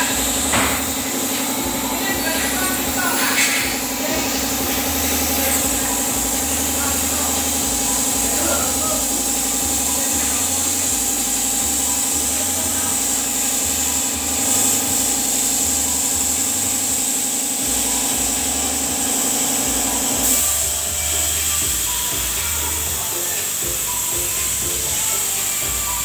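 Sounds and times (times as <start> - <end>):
laser cutter machine hum: 0.0 - 26.0.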